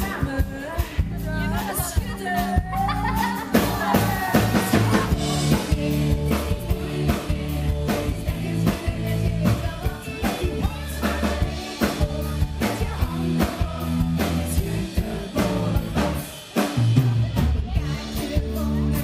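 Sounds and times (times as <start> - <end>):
bass and keyboard: 0.0 - 19.0
drum kit beat: 0.0 - 19.0
people singing: 0.0 - 19.0.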